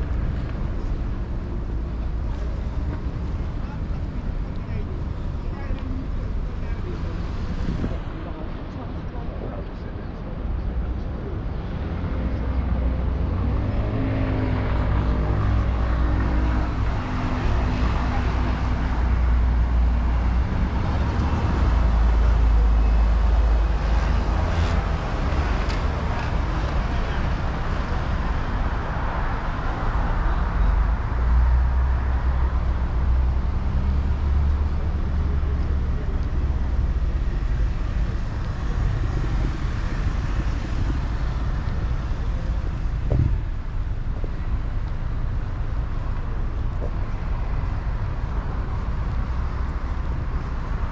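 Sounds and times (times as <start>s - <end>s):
vehicles passing: 0.0s - 50.9s.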